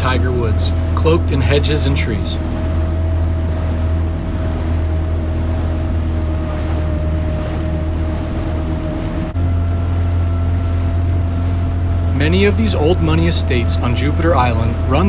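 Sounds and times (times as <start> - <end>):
jet ski engine running: 0.0 - 15.0
water and wind rushing: 0.0 - 15.0.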